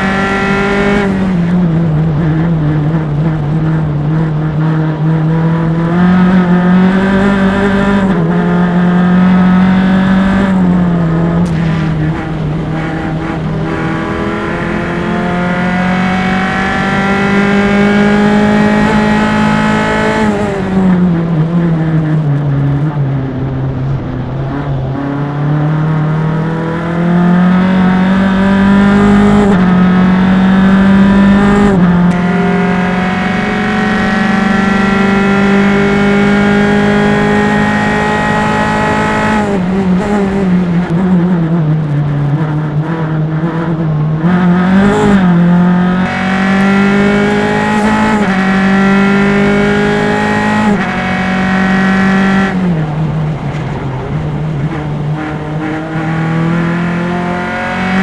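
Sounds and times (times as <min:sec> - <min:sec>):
engine throttle blips: 0:00.0 - 0:58.0
race car engine at full throttle: 0:00.0 - 0:58.0.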